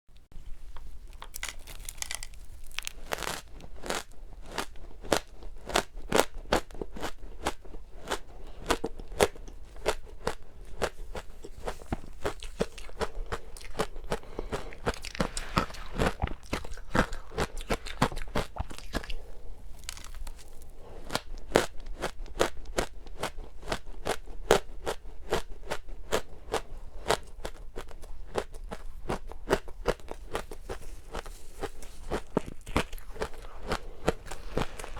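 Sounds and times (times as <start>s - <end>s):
chewing crisp crunches: 0.7s - 34.9s.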